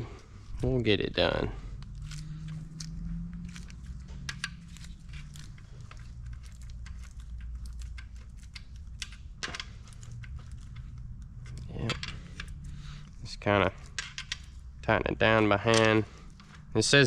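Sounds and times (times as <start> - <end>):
low hum: 0.0 - 17.0
metal parts clicking and clinking: 0.5 - 17.0.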